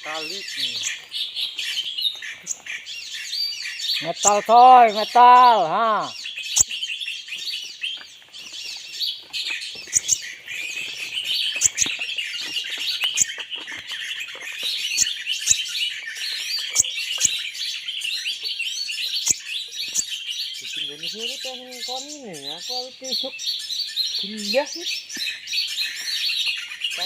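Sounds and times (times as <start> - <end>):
small birds chirping and twittering: 0.0 - 27.0.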